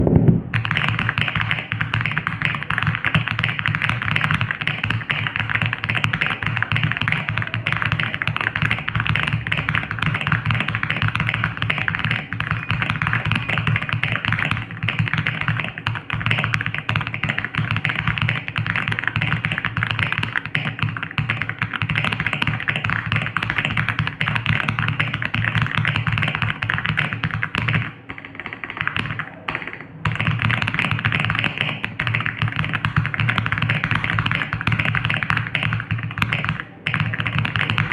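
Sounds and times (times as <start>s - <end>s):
fast mechanical keyboard typing: 0.5s - 37.9s.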